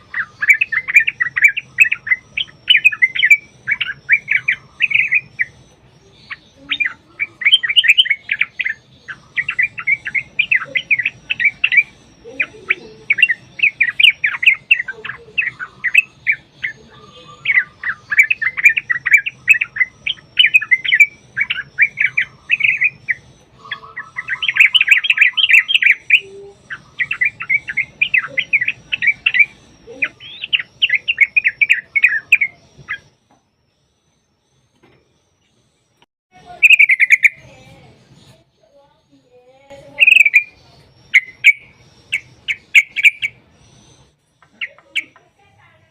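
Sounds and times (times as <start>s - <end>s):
bulbuls chattering calls: 0.0s - 33.2s, 36.4s - 38.4s, 39.7s - 45.9s.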